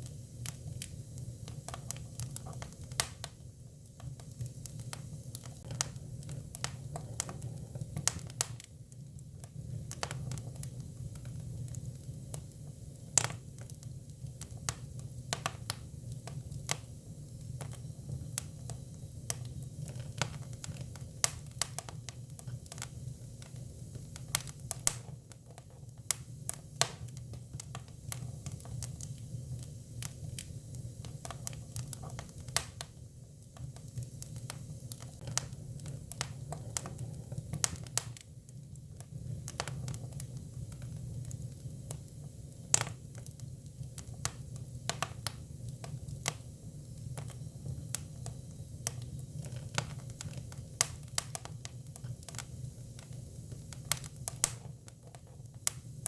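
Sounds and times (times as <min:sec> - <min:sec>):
firewood crackling: 0:00.0 - 0:56.0.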